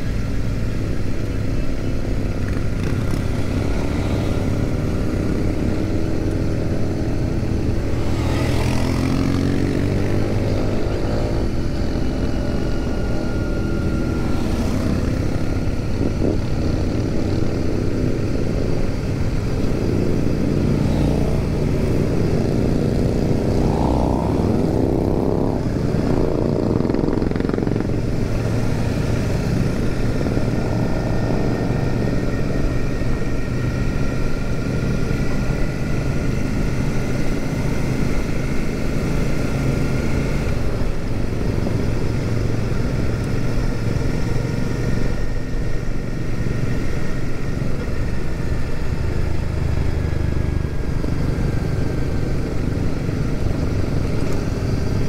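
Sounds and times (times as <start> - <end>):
other motorcycles riding nearby: 0.0 - 55.0
motorcycle engine revving: 0.3 - 55.0.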